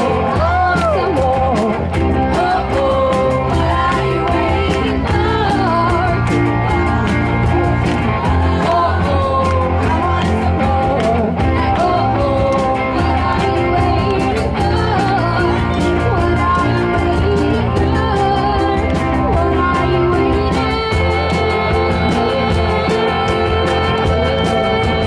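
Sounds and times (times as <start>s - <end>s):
bass guitar: 0.0s - 25.0s
drums: 0.0s - 25.0s
electric guitar: 0.0s - 25.0s
person singing: 0.0s - 25.0s.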